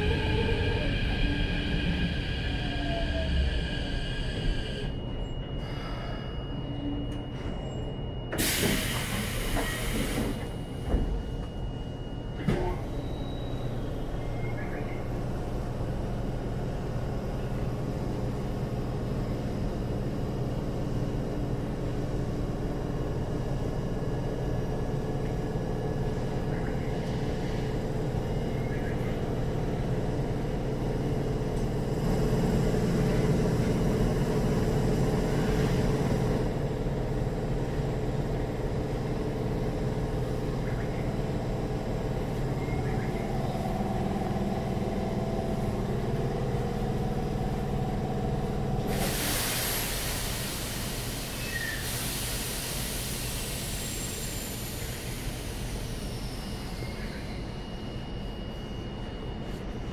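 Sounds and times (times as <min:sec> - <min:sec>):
train equipment low hum: 0:00.0 - 0:59.9.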